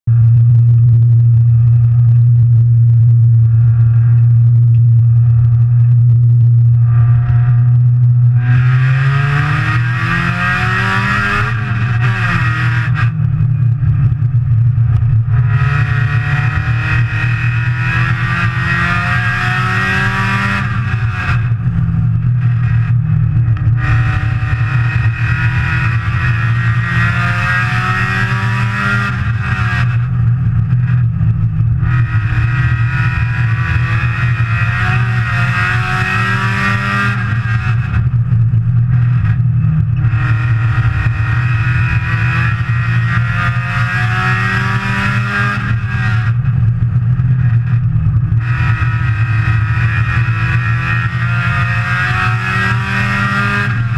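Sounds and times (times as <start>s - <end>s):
race car engine revving: 6.7s - 53.9s.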